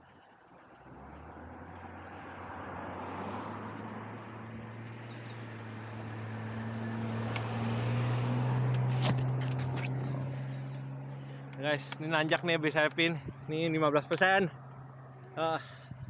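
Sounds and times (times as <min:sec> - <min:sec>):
car approaching: 0:00.0 - 0:16.0.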